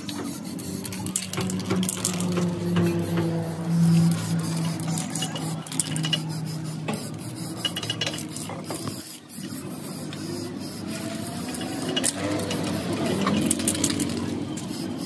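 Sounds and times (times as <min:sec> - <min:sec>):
aerosol spray can hissing: 0:00.0 - 0:15.0.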